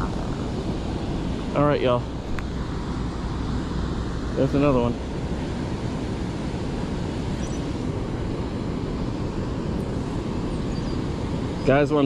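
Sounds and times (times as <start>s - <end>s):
water rushing from spillway: 0.0s - 12.0s.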